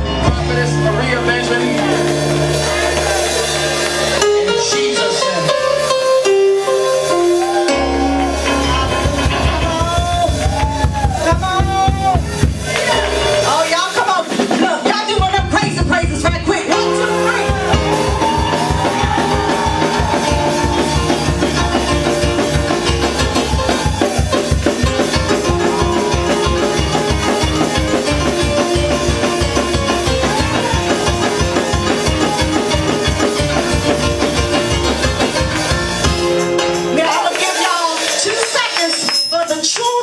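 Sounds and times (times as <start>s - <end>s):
sustained keyboard notes: 0.0s - 14.0s, 16.7s - 37.5s
drum and bass beat: 0.0s - 38.9s
church praise music: 0.0s - 40.0s.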